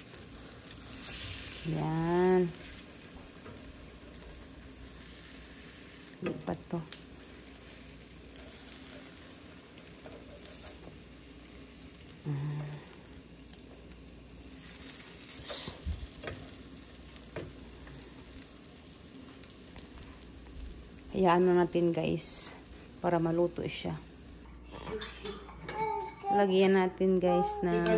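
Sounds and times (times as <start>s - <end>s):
food sizzling in butter: 0.0s - 24.5s.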